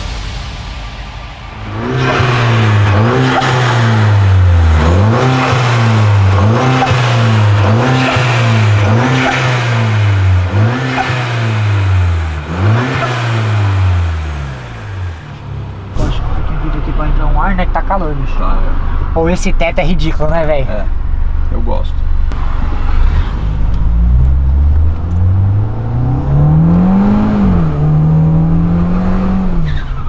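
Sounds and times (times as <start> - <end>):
car engine revving in blips: 1.6 - 19.2, 20.9 - 30.0.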